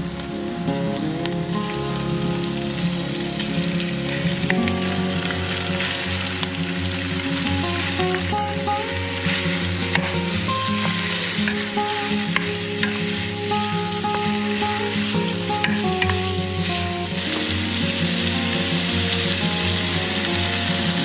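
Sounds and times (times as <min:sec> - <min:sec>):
meat sizzling in hot oil: 0:00.0 - 0:21.0.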